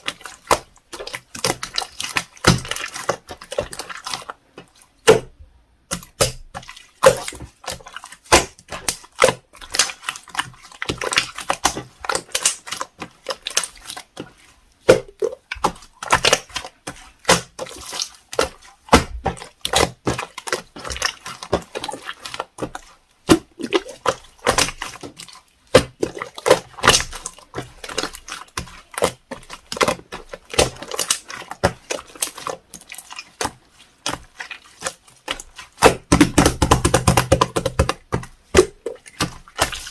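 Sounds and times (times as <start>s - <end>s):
slime squishing: 0.0s - 39.9s.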